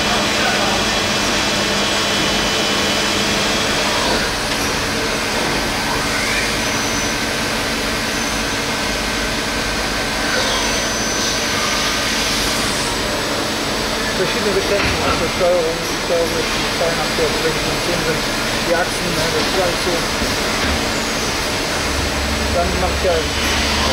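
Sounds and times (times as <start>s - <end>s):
machine tools humming: 0.0s - 23.9s.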